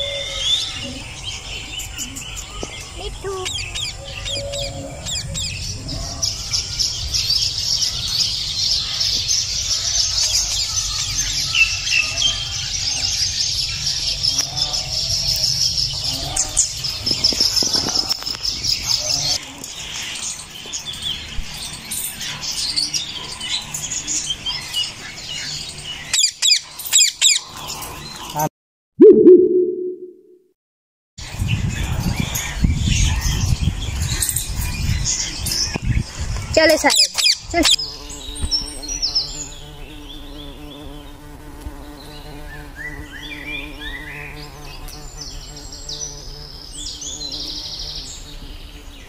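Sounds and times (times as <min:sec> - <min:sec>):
birds chirping: 0:00.0 - 0:30.1, 0:31.3 - 0:49.0.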